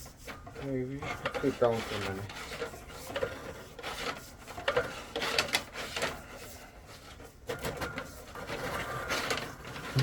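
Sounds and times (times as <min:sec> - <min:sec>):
drain cable scraping and rattling: 0:00.0 - 0:10.0.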